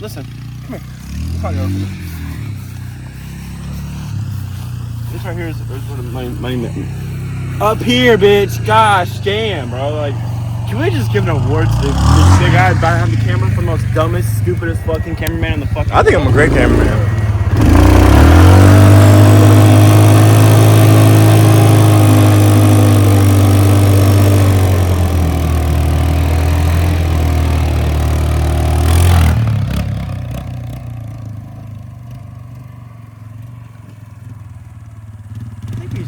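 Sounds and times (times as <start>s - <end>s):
motorbike engine revving: 0.0s - 32.6s, 33.9s - 36.0s.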